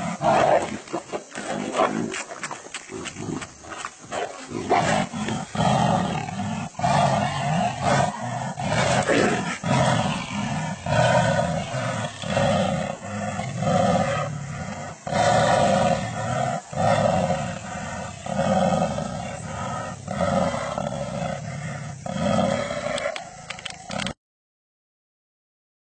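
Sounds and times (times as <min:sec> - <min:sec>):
jaguars roaring: 0:00.0 - 0:02.2, 0:03.0 - 0:24.2.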